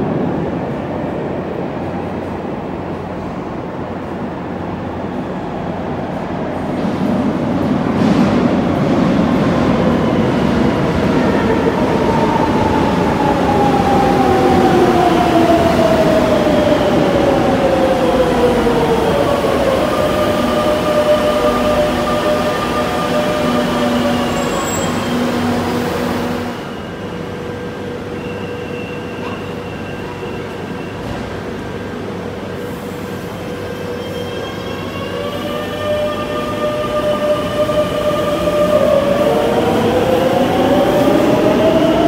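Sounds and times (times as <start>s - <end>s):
falling train whine: 0.0s - 42.0s
steady train tones: 0.0s - 42.0s
train running noise: 0.0s - 42.0s.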